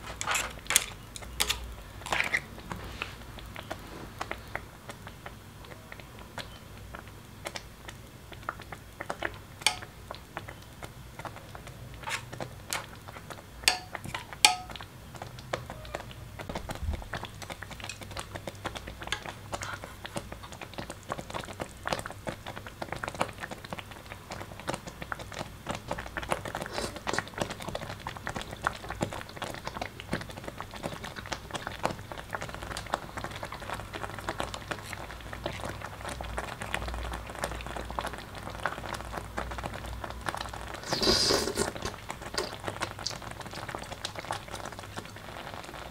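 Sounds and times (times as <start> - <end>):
congee bubbling in a pot: 0.0 - 45.9.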